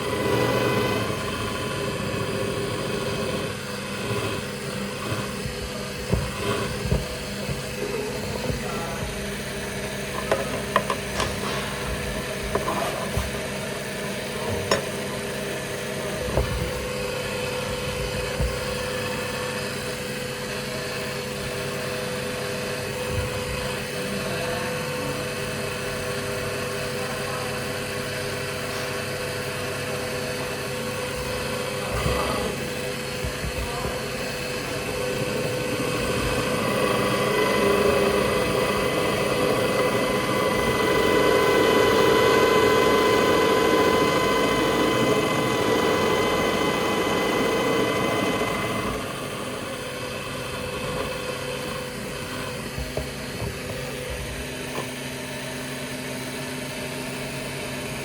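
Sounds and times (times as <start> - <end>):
electric power tool humming: 0.0 - 21.5, 30.4 - 55.9.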